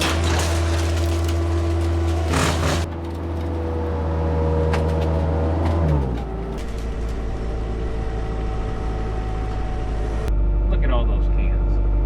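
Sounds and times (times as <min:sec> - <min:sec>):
skid steer engine running: 0:00.0 - 0:12.0.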